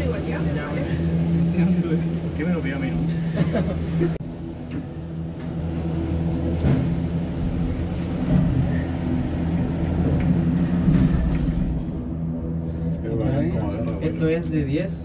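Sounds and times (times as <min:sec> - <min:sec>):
cable car machinery hum and rumble: 0:00.0 - 0:15.0.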